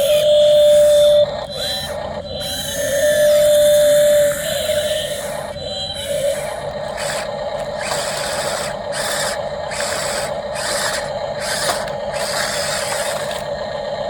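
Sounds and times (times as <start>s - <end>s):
toy excavator motors whirring: 0.0s - 13.9s
steady whine: 0.0s - 14.0s.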